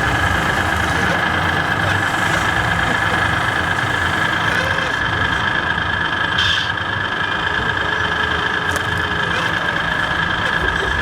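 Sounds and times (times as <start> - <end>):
model trucks humming and whining: 0.0 - 11.0.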